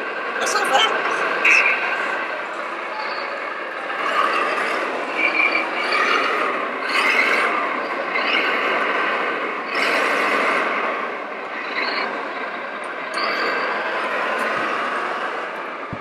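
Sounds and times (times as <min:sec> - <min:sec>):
model truck motors whining: 0:00.0 - 0:16.0.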